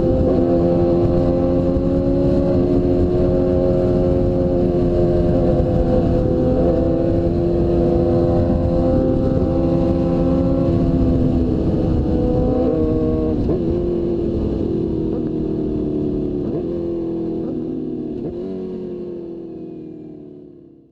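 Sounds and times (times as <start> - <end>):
wind rumble: 0.0 - 19.2
motorcycle engine running: 0.0 - 20.9.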